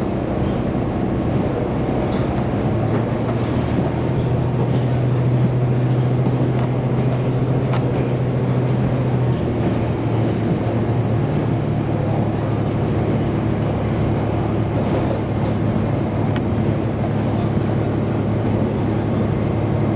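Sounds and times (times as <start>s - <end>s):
railcar engine drone: 0.0s - 19.9s
wheels rumbling on rail: 0.0s - 19.9s.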